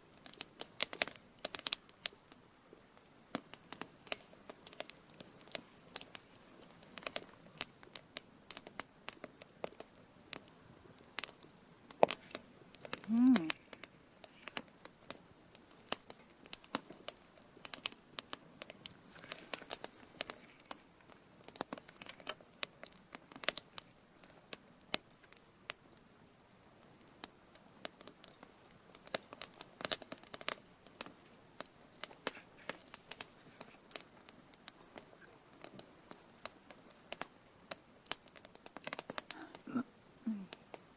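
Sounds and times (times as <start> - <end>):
faint hiss: 0.0 - 40.9
fire crackling and popping: 0.0 - 40.9.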